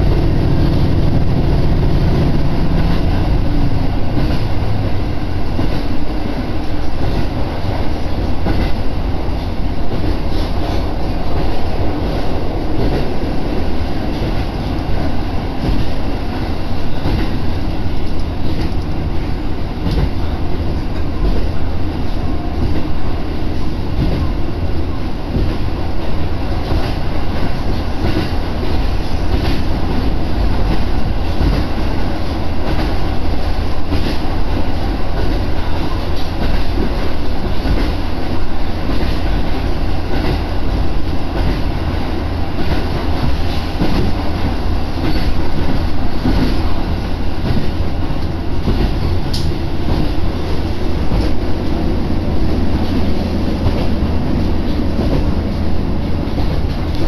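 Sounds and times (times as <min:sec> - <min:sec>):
rail joint clicks: 0:00.0 - 0:57.0
railcar engine and wheels rumbling: 0:00.0 - 0:57.0.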